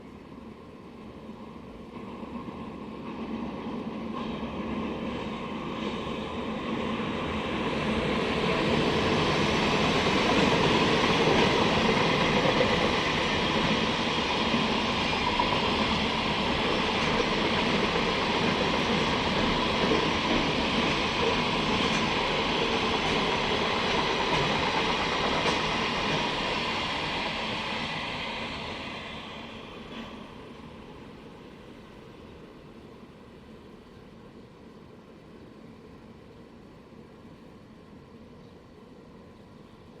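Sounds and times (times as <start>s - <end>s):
freight train wheels rumbling: 0.0s - 34.1s.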